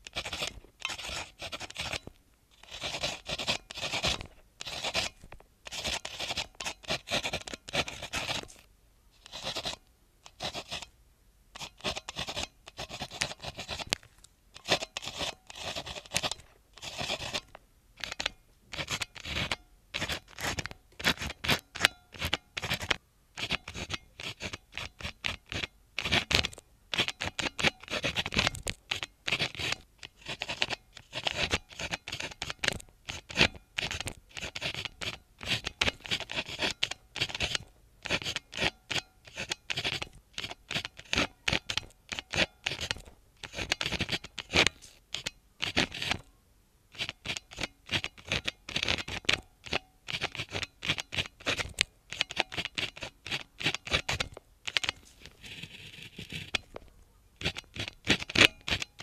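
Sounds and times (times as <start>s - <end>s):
pen scratching on paper: 0.0s - 8.6s, 9.2s - 10.9s, 11.6s - 14.0s, 14.6s - 46.2s, 46.9s - 59.0s.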